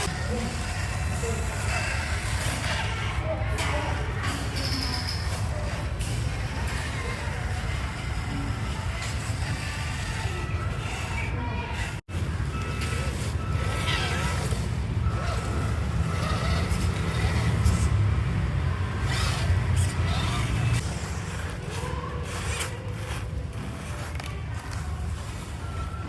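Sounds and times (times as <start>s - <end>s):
small electric motor and gearbox: 0.0s - 26.0s
tyres scraping in sand: 0.0s - 26.0s.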